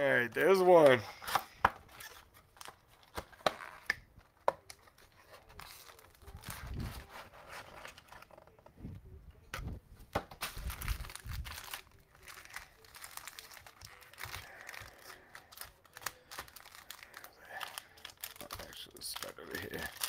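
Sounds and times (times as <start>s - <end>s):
plastic wrappers crinkling and tearing: 0.2s - 8.6s, 10.4s - 20.0s.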